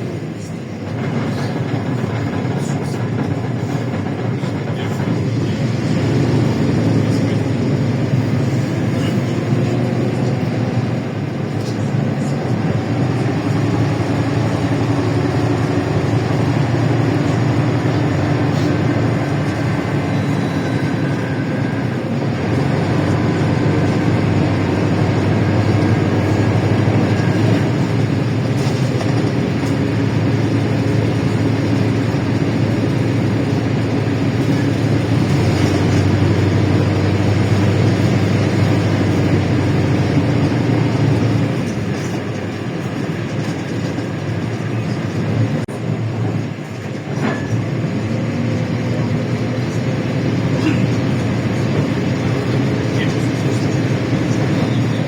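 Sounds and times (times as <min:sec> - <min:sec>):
bus engine running: 0:00.0 - 0:55.0
road and body noise: 0:00.0 - 0:55.0.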